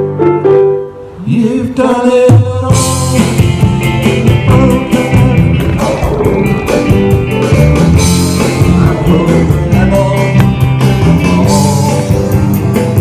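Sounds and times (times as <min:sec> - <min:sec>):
electric guitar: 0:00.0 - 0:13.0
bass guitar: 0:02.3 - 0:13.0
drums steady beat: 0:02.3 - 0:13.0.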